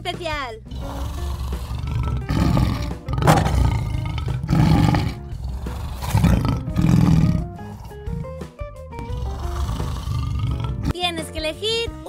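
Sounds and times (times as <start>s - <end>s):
faint background music: 0.0s - 12.0s
dinosaur roars: 0.7s - 10.9s.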